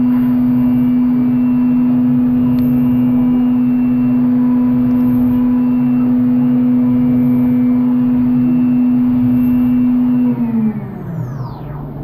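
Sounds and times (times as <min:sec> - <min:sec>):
spindle drilling whine: 0:00.0 - 0:12.0.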